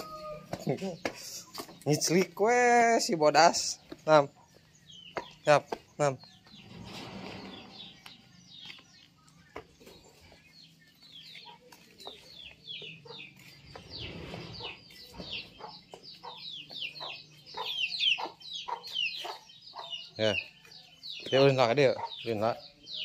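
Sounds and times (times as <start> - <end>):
young chicken peeping: 3.7 - 23.0.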